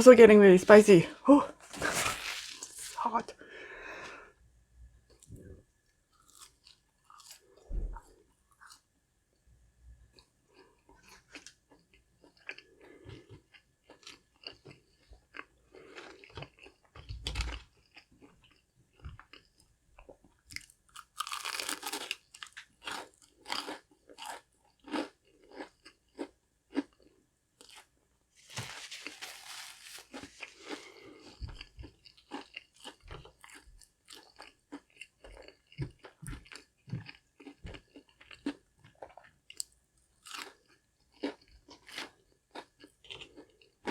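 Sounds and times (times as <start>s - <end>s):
person chewing crunchy food: 6.1s - 8.8s, 10.2s - 43.9s.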